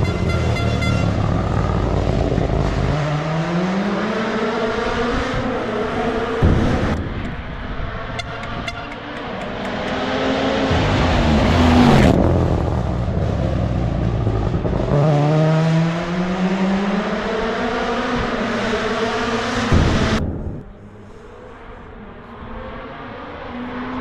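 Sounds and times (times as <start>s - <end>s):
engine accelerating hard: 0.0s - 24.0s
rally car passing at speed: 0.0s - 24.0s.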